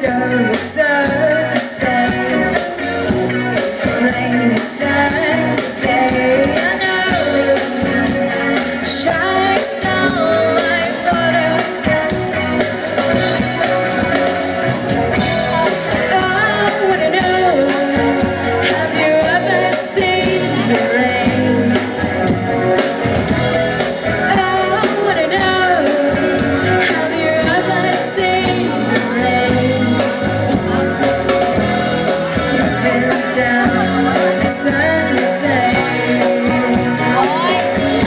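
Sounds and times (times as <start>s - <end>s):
live rock band playing: 0.0s - 38.0s
wavering lead melody: 0.0s - 38.0s.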